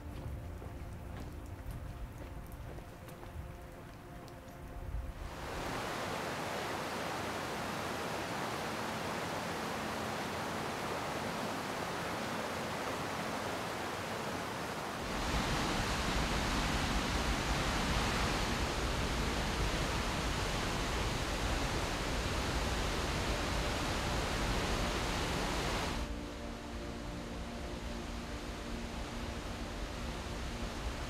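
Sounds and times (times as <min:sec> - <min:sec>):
river rushing through gorge: 0:05.2 - 0:31.0.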